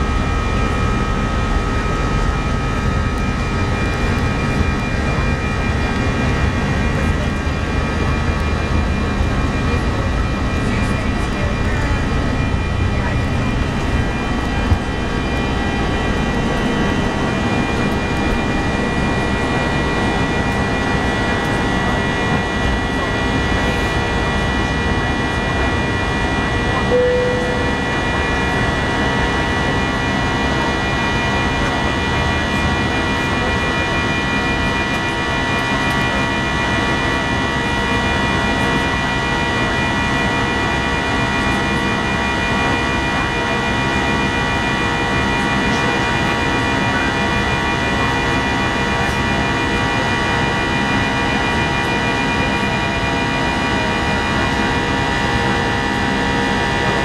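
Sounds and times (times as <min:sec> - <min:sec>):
jet engines droning with whine: 0:00.0 - 0:57.0.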